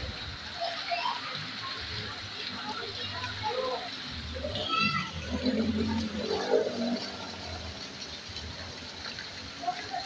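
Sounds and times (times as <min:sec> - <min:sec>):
heavy rain hiss: 0:00.0 - 0:10.0
water pouring off a roof edge: 0:00.0 - 0:10.0.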